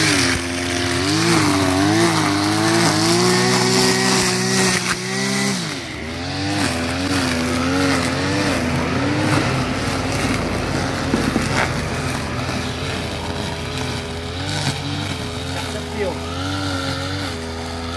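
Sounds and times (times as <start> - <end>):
brush cutter engine running: 0.0 - 17.9.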